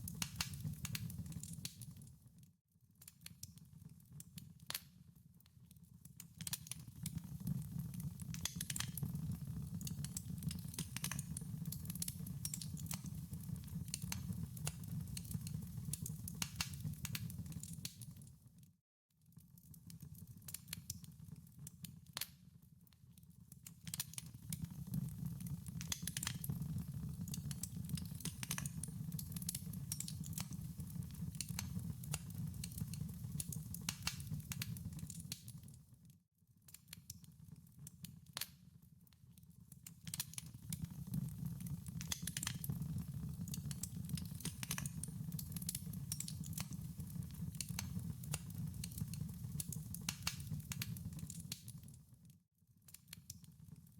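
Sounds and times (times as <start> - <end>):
wood fire crackling and popping: 0.0 - 2.1, 3.0 - 18.4, 19.3 - 22.4, 23.5 - 35.8, 36.7 - 38.5, 39.7 - 52.0.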